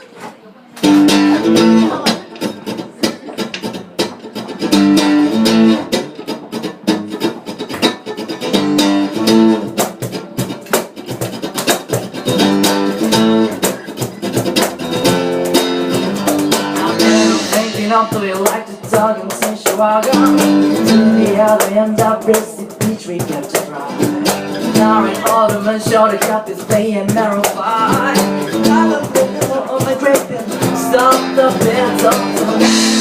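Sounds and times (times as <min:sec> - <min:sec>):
guitar strumming chords: 0:00.8 - 0:33.0.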